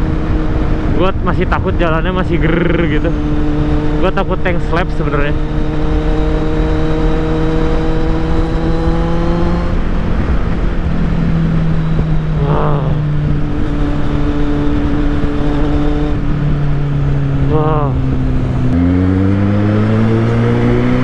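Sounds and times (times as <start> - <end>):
motorcycle engine at speed: 0.0 - 21.0
wind rushing over microphone: 0.0 - 21.0.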